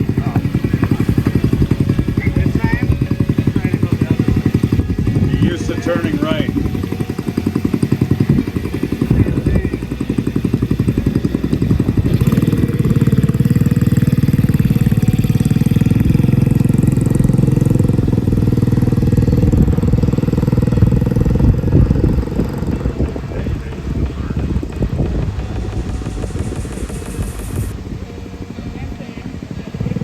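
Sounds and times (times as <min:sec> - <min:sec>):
mini-bike engine running: 0:00.0 - 0:30.0.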